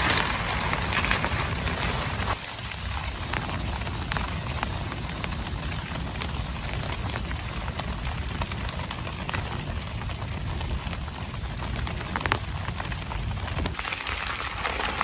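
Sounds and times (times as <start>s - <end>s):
low rain rumble: 0.0s - 15.0s
raindrops ticking on a surface: 0.0s - 15.0s.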